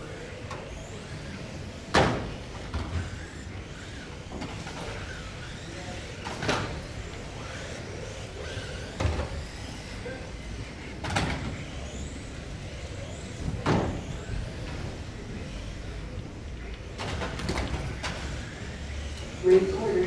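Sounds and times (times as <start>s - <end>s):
electric rc cars racing: 0.0s - 20.0s.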